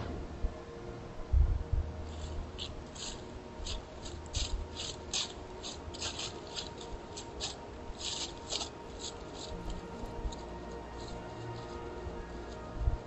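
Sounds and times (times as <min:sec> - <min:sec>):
hooves crunching dry leaves: 0:02.0 - 0:13.0.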